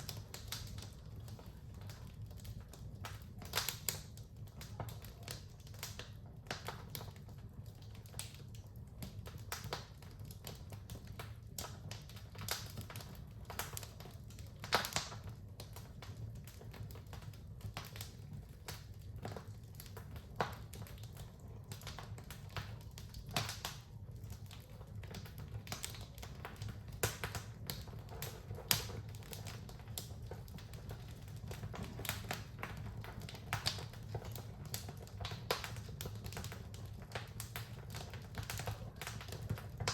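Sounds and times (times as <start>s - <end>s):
fireplace fire crackling and popping: 0.0s - 39.9s.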